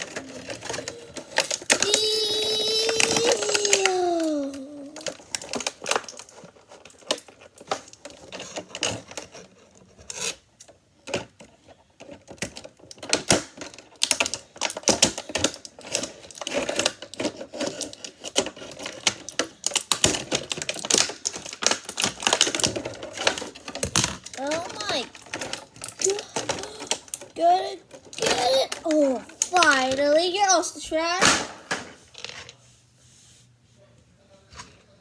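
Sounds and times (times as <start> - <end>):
plastic packaging crackling: 0.0 - 10.3, 12.0 - 31.4.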